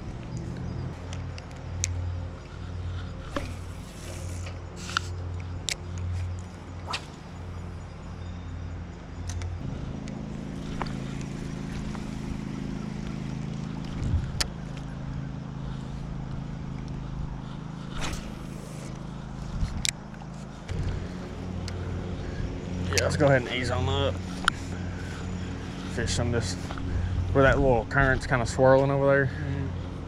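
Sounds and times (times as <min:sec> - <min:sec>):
motor humming: 0:00.0 - 0:27.4.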